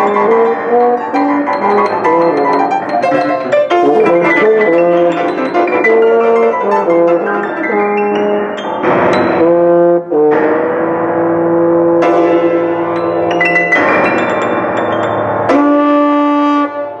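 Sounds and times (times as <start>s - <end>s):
keyboard playing quick melody: 0.0s - 11.3s, 12.0s - 17.0s.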